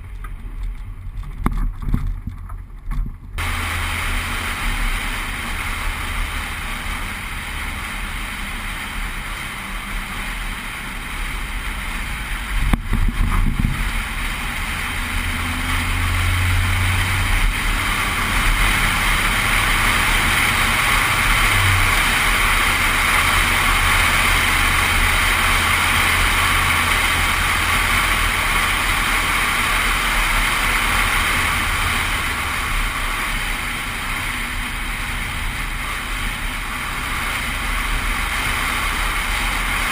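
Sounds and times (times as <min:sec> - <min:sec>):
car engine low drone: 0:00.0 - 0:39.9
wind rushing over camera: 0:00.0 - 0:39.9.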